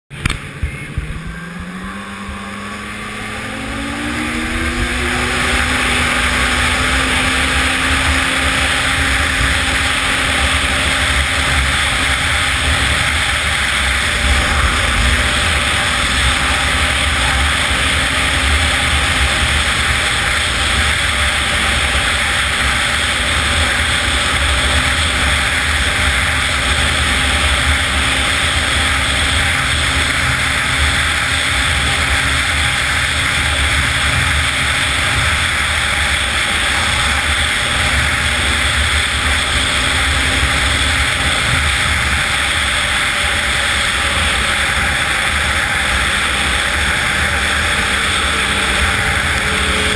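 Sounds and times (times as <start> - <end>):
snowmobile engine and track: 0.1 - 49.9.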